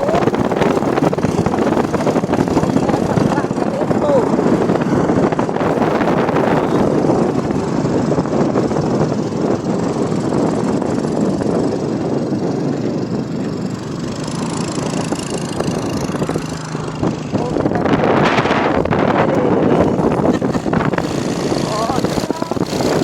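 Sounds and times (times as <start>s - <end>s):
car engine and road noise: 0.0s - 23.0s
wind rushing past: 0.0s - 23.0s.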